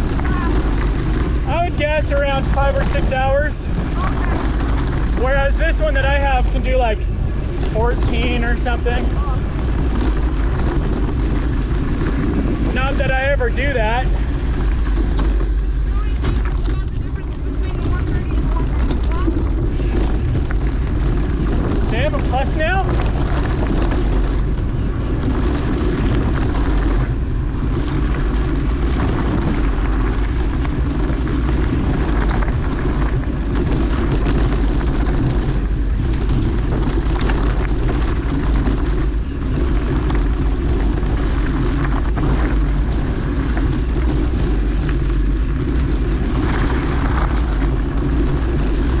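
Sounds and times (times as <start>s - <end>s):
bicycle tyre and trail noise: 0.0s - 49.0s
wind buffeting microphone: 0.0s - 49.0s.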